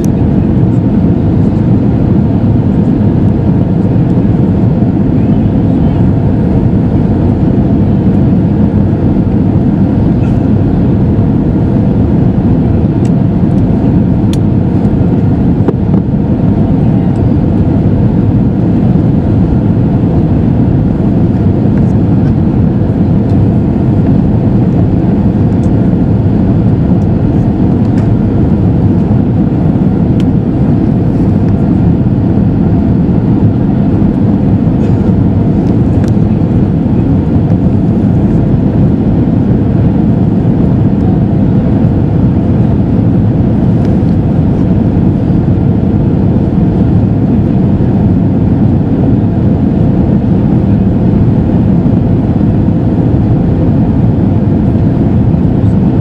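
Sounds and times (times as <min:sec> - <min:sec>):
faint steady hum: 0:00.0 - 0:56.0
jet engine drone: 0:00.0 - 0:56.0.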